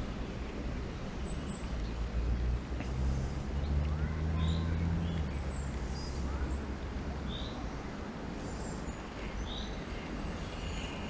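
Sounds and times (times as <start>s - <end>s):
steady hiss and low rumble: 0.0s - 11.0s.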